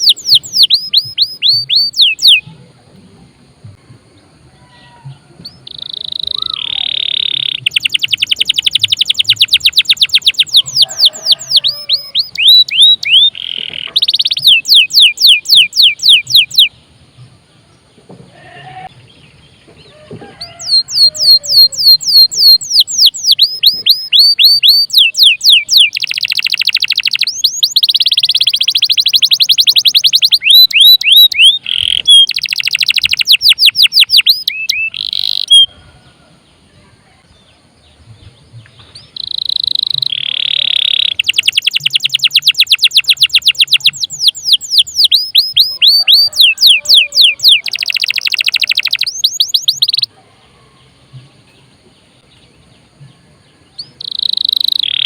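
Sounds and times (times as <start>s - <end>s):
canary singing trills: 0.0s - 2.7s, 4.5s - 17.3s, 18.4s - 35.7s, 37.1s - 55.0s.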